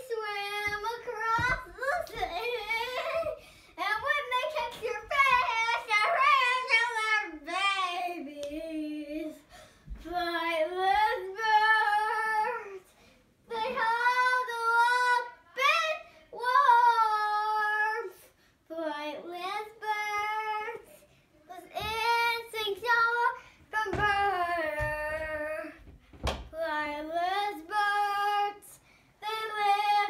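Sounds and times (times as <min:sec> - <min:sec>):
girl singing unaccompanied: 0:00.0 - 0:30.0.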